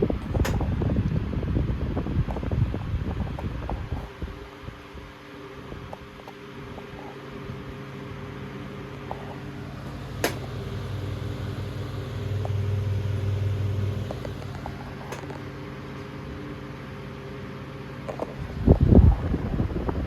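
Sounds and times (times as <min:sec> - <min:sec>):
table fan running: 0:00.0 - 0:20.0.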